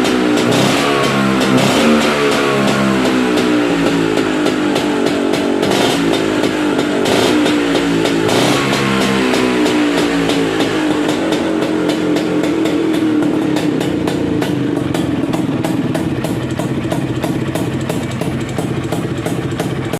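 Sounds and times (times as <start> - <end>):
scooter engine idling: 0.0 - 19.9.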